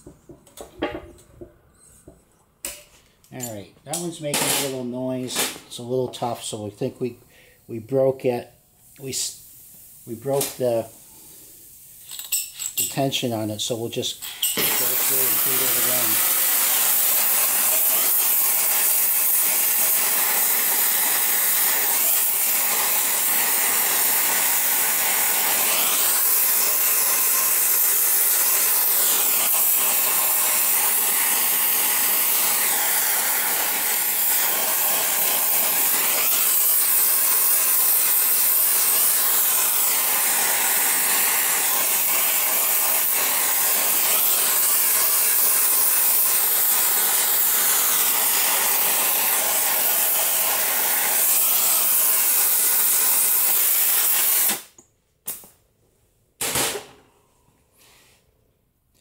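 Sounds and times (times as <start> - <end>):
gas torch flame hissing: 4.0 - 12.1, 12.8 - 54.8.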